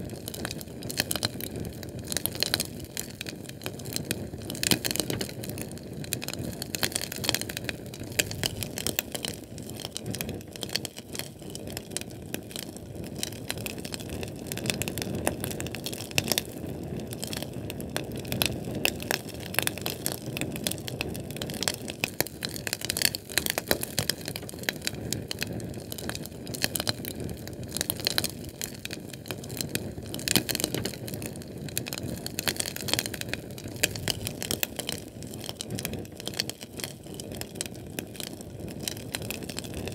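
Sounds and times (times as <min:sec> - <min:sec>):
fire burning: 0:00.0 - 0:39.9
fire crackling and popping: 0:00.0 - 0:39.9.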